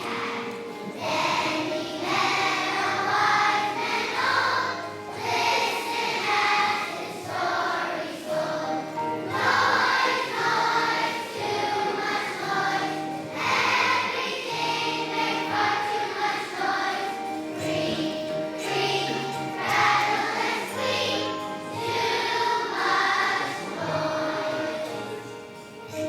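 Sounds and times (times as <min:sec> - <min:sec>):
children's choir singing: 0:00.0 - 0:26.0
held accompaniment notes: 0:00.0 - 0:26.0.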